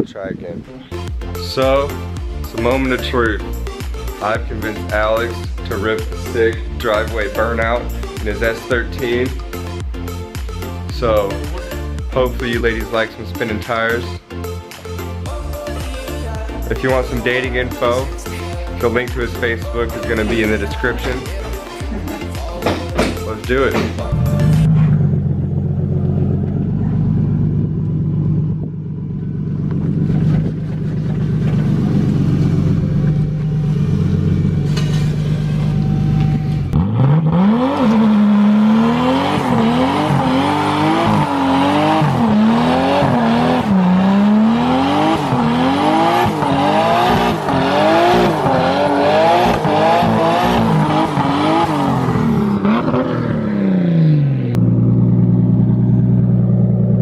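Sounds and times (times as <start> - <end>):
car engine idling and revving: 0.6 - 57.0.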